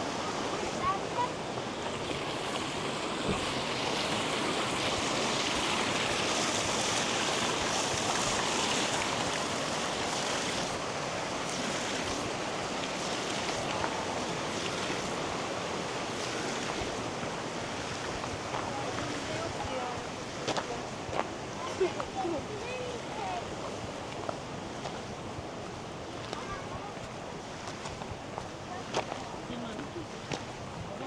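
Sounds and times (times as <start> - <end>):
flowing water rushing: 0.0 - 31.0.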